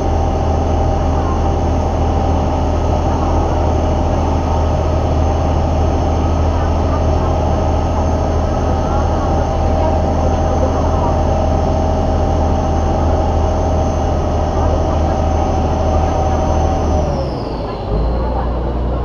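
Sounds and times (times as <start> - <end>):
boat engine droning: 0.0 - 19.0
water rushing along hull: 0.0 - 19.0.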